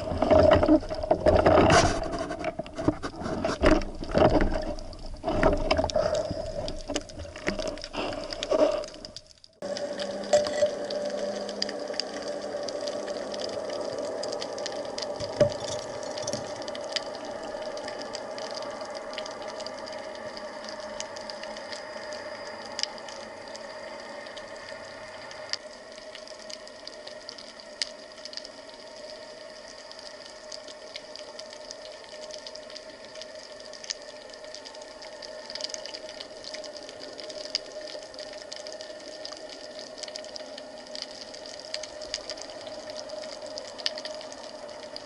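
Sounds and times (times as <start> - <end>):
muffled underwater hum: 0.0 - 45.0
underwater clicks and crackles: 0.0 - 45.0.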